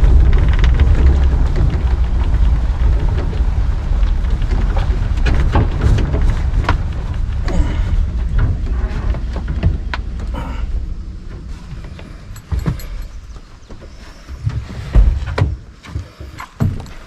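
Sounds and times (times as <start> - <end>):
wind on microphone: 0.0 - 16.8
boat motor rumble: 0.0 - 17.0.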